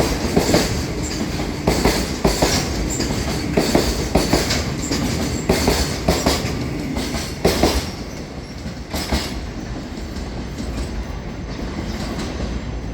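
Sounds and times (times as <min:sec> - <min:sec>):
train rolling rumble: 0:00.0 - 0:12.9
train wheels clickety-clack: 0:00.0 - 0:12.9.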